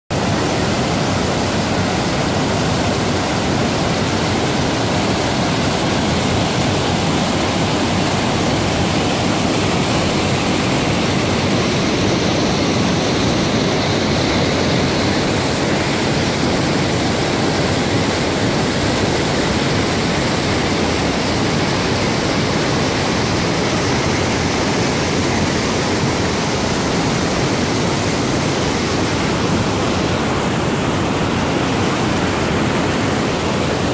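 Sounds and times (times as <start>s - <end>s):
creek water rushing over rocks: 0.1s - 33.9s.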